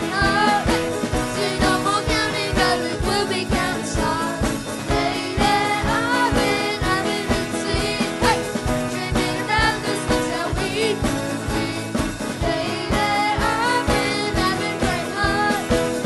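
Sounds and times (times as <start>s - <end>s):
drum kit beat: 0.0s - 16.0s
keyboard: 0.0s - 16.0s
person singing: 0.0s - 16.0s
strummed acoustic guitar: 0.0s - 16.0s.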